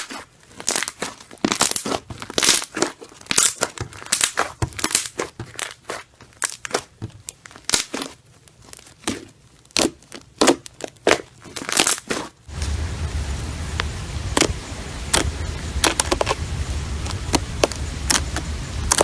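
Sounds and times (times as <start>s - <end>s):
slime crackling and popping: 0.0s - 19.0s.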